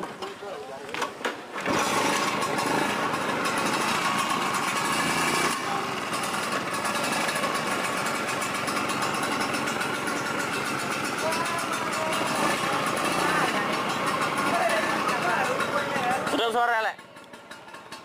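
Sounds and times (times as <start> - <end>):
scooter engine running: 0.0 - 18.0.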